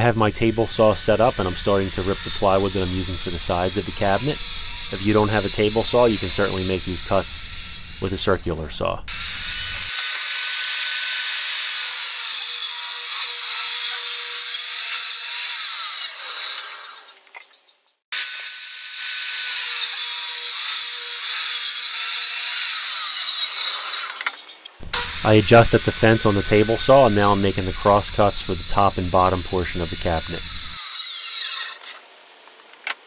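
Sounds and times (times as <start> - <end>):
table saw blade whine: 0.0 - 17.2, 18.2 - 32.0.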